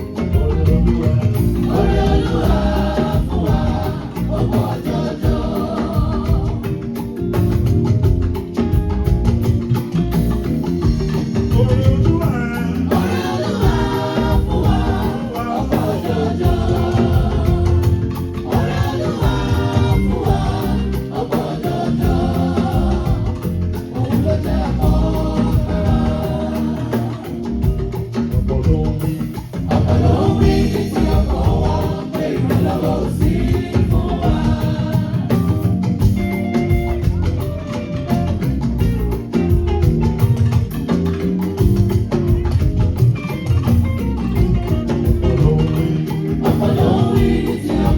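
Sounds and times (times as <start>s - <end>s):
choir singing gospel music: 0.0s - 47.9s
instrumental backing with percussive beat: 0.0s - 47.9s.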